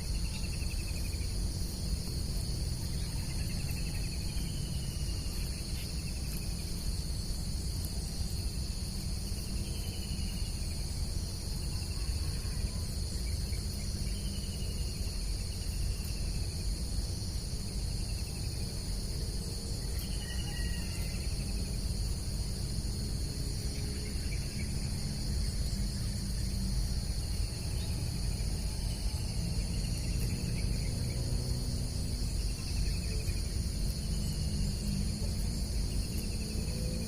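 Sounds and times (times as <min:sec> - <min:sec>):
constant low rumble: 0:00.0 - 0:37.0
crickets and insects chirping: 0:00.0 - 0:37.0.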